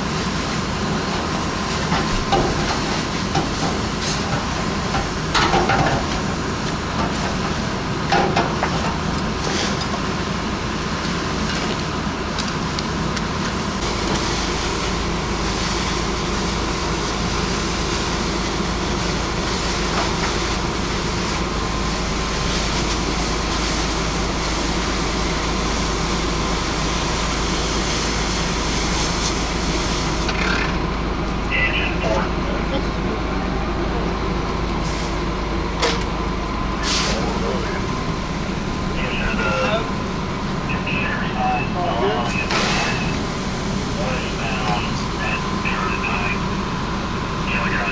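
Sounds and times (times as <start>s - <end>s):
fire engine pump rumble and hiss: 0.0s - 47.9s.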